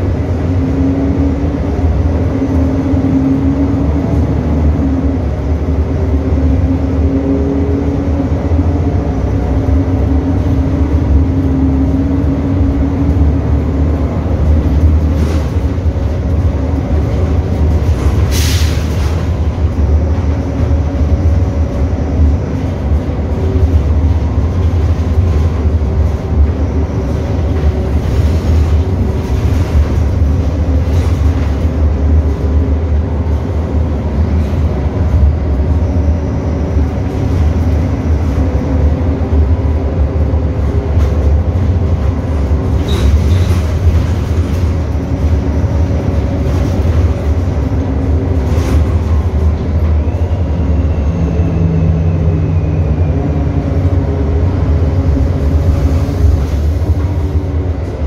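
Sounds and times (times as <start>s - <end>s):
diesel bus engine rumbling: 0.0s - 58.0s.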